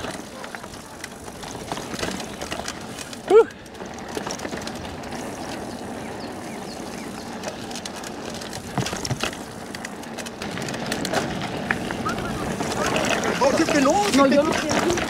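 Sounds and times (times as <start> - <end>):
bike rattling clicks: 0.0 - 15.0
tyre noise on dirt: 0.0 - 15.0.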